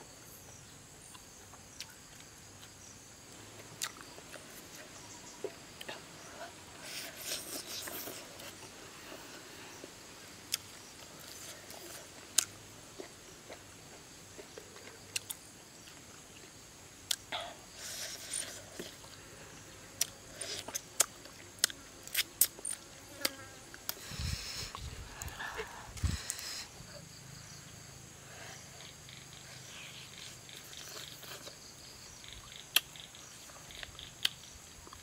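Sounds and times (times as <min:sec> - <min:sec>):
insects humming: 0:00.0 - 0:35.0.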